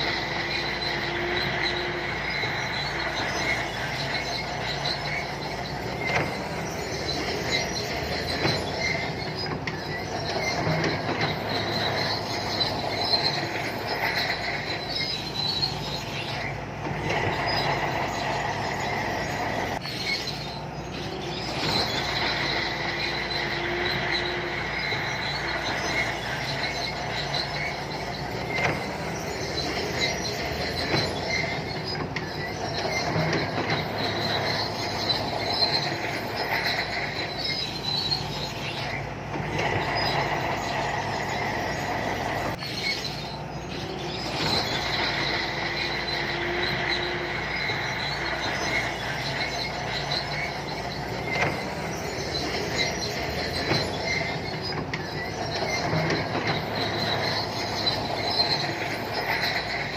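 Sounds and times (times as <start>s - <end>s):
crawler tracks clanking: 0.0s - 59.9s
crawler tracks squealing: 0.0s - 59.9s
diesel engine under load: 0.0s - 59.9s.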